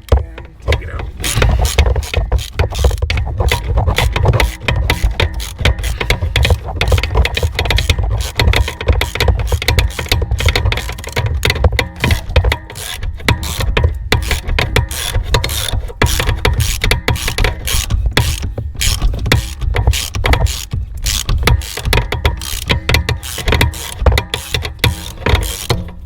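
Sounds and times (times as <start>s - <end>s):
ratchet wrench clicking: 1.1s - 26.0s.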